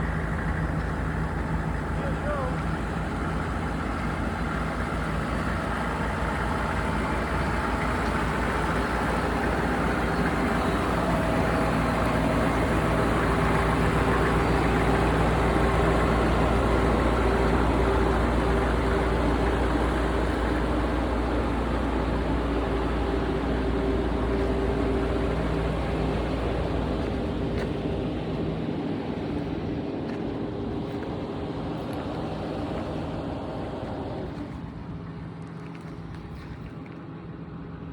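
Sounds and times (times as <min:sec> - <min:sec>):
diesel engine running steadily: 0:00.0 - 0:37.9.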